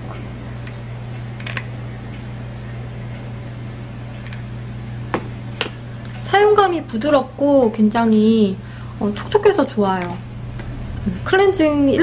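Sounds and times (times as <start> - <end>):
low equipment hum: 0.0 - 12.0.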